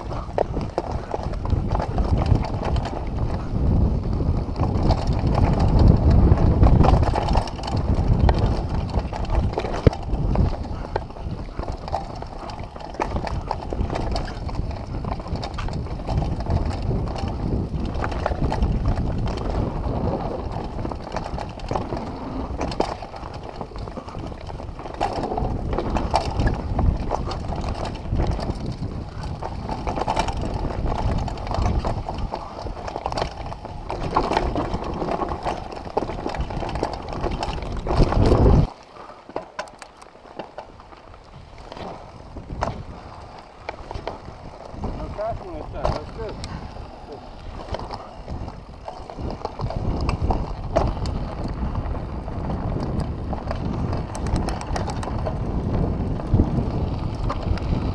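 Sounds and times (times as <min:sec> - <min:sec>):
bike clicks and rattles: 0:00.0 - 0:57.9
wind and trail rumble: 0:00.0 - 0:57.9.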